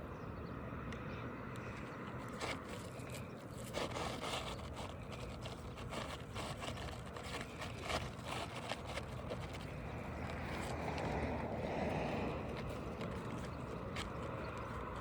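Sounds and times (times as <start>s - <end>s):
roof shingle rasping scrapes: 2.0s - 15.0s.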